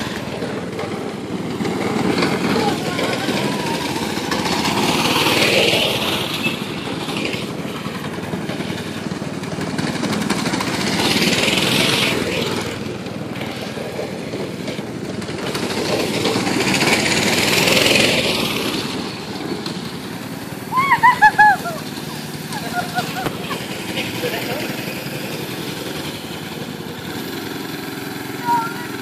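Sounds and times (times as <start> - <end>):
go-kart engine passing: 0.0 - 29.0.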